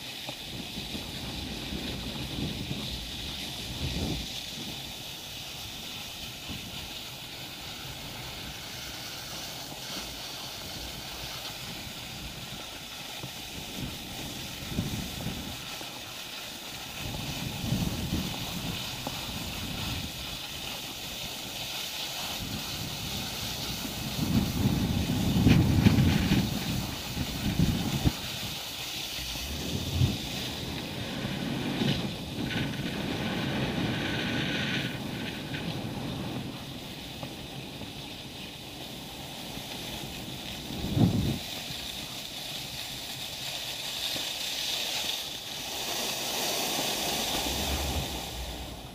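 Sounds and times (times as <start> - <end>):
skis sliding on snow: 0.0 - 48.9
wind buffeting microphone: 0.4 - 21.6, 22.2 - 42.9, 46.8 - 48.9.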